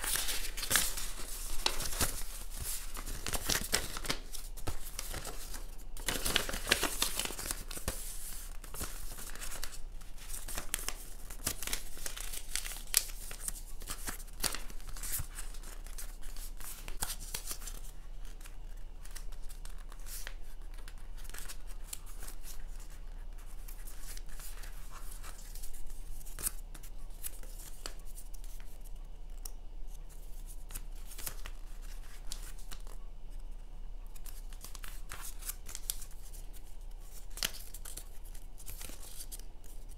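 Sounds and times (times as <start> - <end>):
faint low hum: 0.0 - 39.9
paper folding and crinkling: 0.0 - 39.9.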